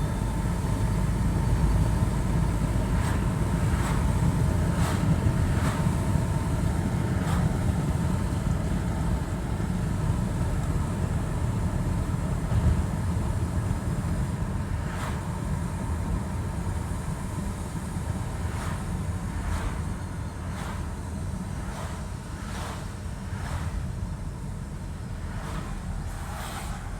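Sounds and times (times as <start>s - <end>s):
car road rumble: 0.0s - 22.8s.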